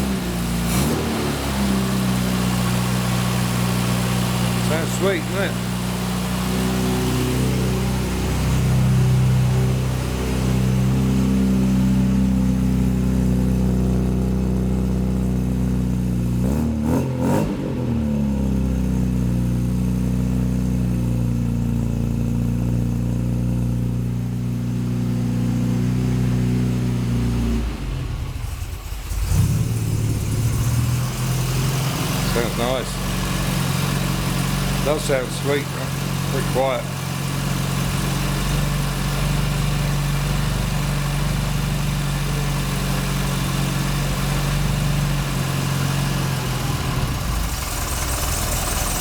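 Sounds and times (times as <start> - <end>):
car engine running: 0.0 - 49.0.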